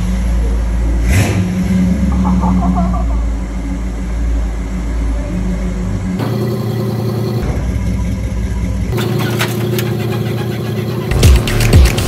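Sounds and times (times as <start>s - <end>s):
car engine exhaust running: 0.0s - 12.0s.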